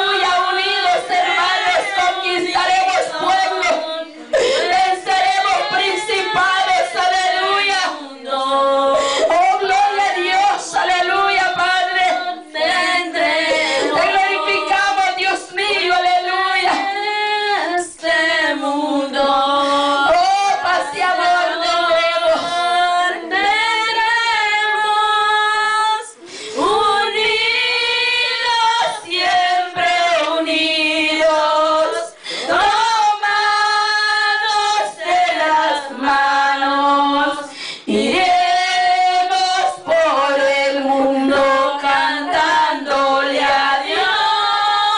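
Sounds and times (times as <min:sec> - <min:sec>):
woman singing into a microphone: 0:00.0 - 0:44.9.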